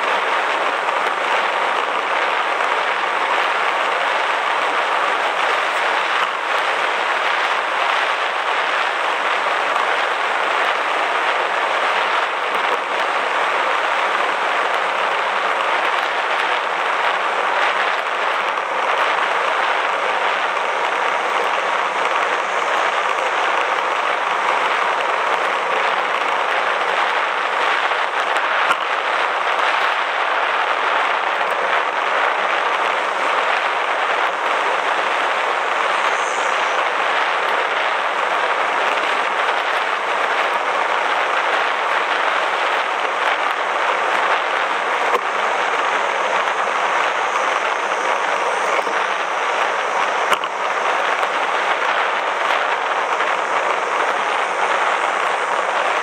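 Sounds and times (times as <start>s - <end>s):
bicycle tyre noise: 0.0s - 56.0s
wind rushing: 0.0s - 56.0s.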